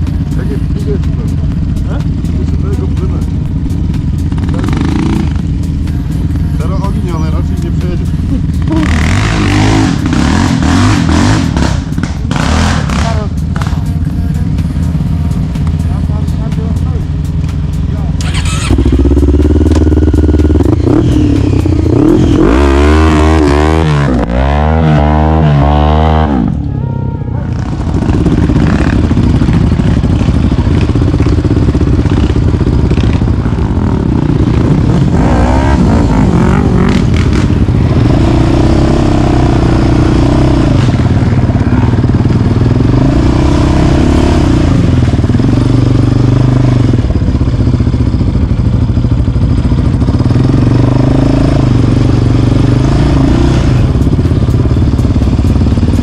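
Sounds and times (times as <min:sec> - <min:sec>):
quad bike engine revving: 0:00.0 - 0:26.8, 0:27.4 - 0:56.0.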